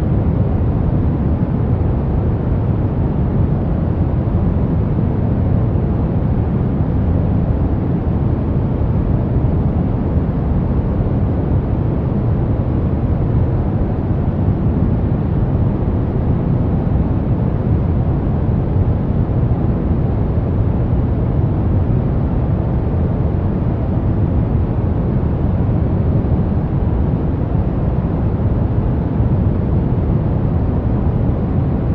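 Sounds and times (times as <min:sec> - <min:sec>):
steady brown noise: 0:00.0 - 0:31.9.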